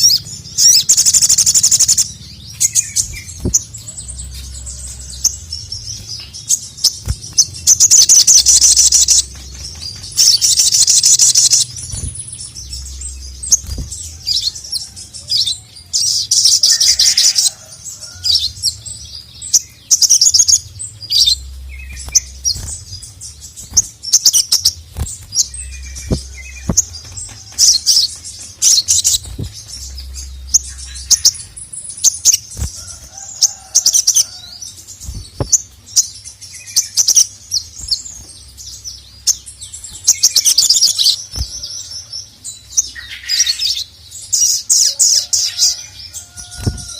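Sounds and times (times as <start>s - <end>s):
bird chattering song: 0.0s - 46.9s.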